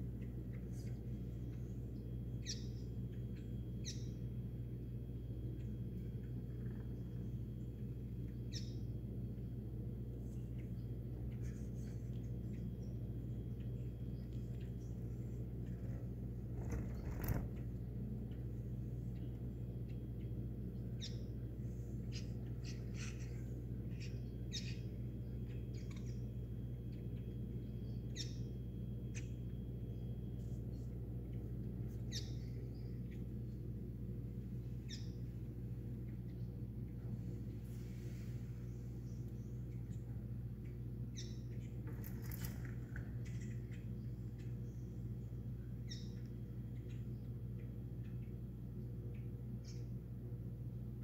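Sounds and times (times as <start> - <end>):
birds chirping: 0.0 - 50.8
low hum: 0.0 - 51.0.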